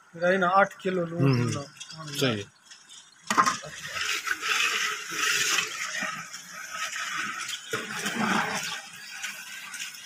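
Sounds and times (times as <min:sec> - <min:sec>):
broth boiling in pots: 0:00.0 - 0:10.0.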